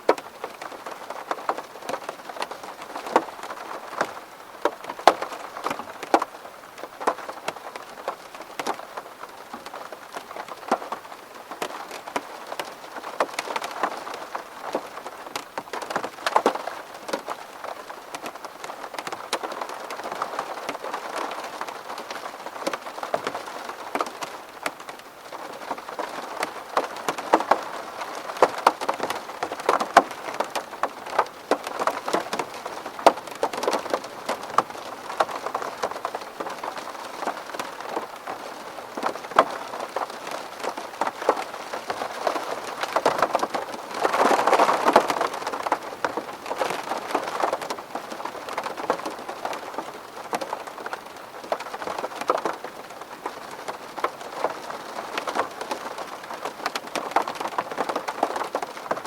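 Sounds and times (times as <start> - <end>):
raindrops tapping on glass: 0.1 - 8.8, 11.6 - 59.0.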